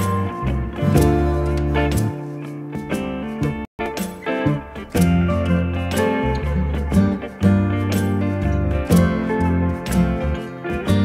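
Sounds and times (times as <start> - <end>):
held bass notes: 0.0 - 11.0
plucked-string tune: 0.0 - 11.0.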